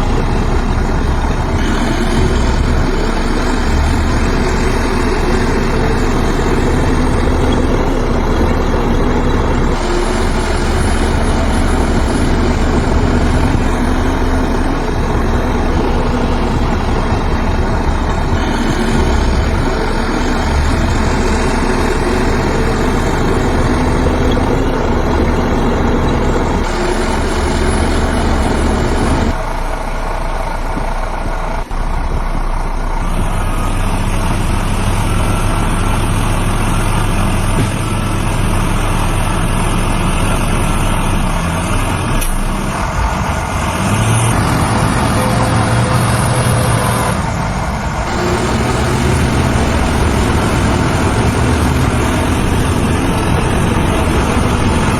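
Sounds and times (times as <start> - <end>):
diesel machinery engine hum: 0.0 - 54.9.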